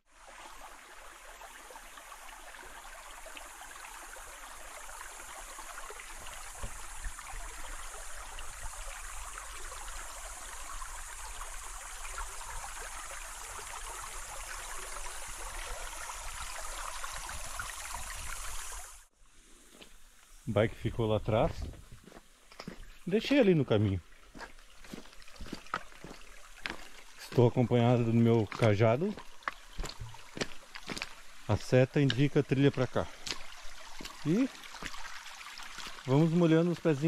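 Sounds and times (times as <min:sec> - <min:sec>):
stream trickling over stones: 0:00.1 - 0:37.0.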